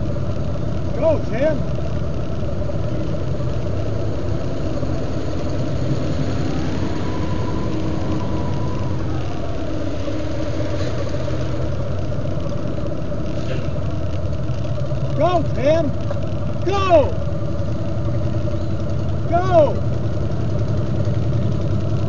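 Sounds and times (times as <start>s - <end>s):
motorcycle engines and bus idling: 0.0s - 22.0s.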